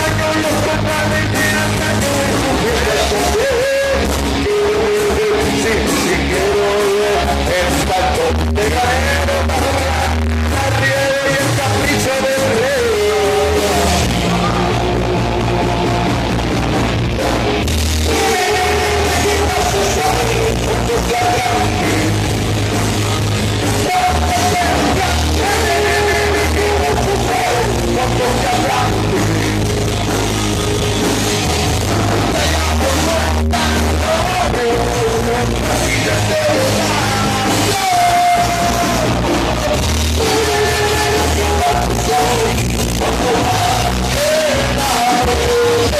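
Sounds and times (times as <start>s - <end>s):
person singing: 0.0s - 45.9s
rock band playing live: 0.0s - 45.9s.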